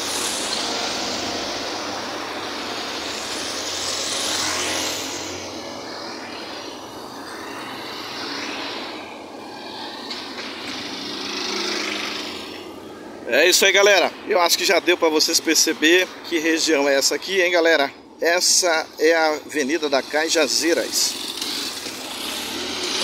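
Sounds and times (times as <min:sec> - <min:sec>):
passing cars and motorcycles: 0:00.0 - 0:23.0.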